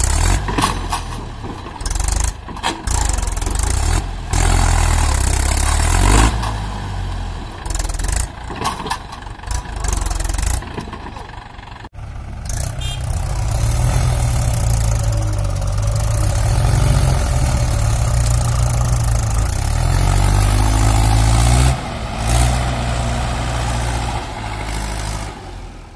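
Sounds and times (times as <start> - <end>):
diesel engines running under load: 0.0 - 25.9.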